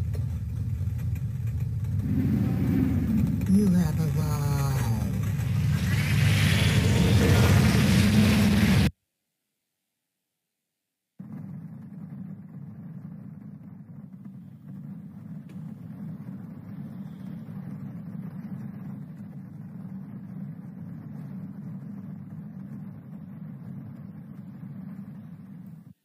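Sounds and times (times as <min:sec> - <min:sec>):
low rumbling soundtrack: 0:00.0 - 0:08.9, 0:11.2 - 0:26.0.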